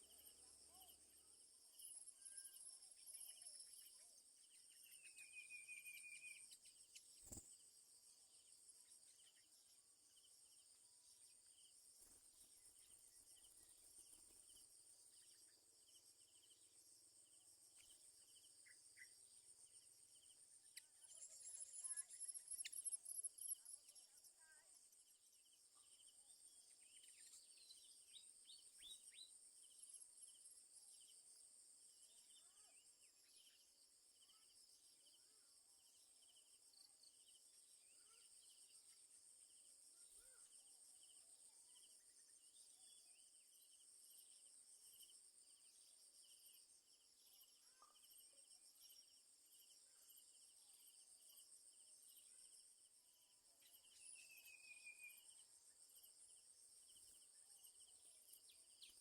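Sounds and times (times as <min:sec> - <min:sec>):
faint chirps: 0:00.0 - 0:59.0.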